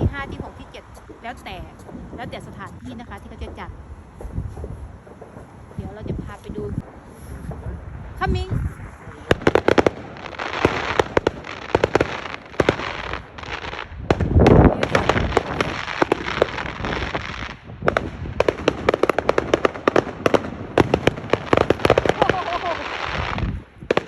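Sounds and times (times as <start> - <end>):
fireworks bangs and crackles: 0.0 - 24.0
deep firework boom: 1.1 - 24.0.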